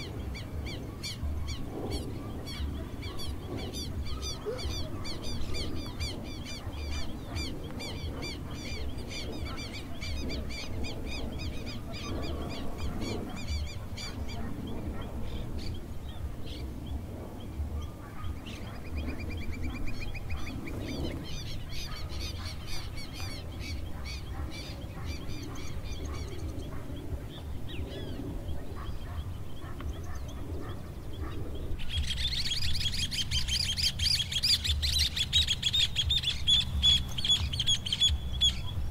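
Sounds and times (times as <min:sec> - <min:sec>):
birds calling: 0:00.0 - 0:38.9
steady low rumble: 0:00.0 - 0:38.9.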